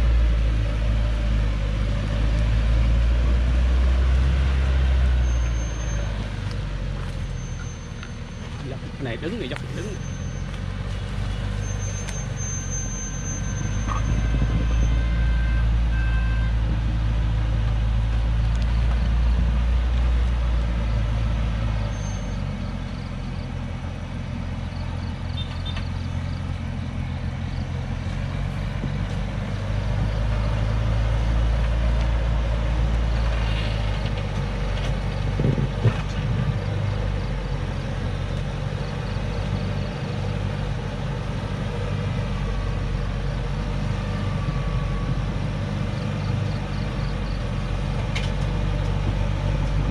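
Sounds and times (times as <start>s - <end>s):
diesel truck engine droning: 0.0s - 49.9s.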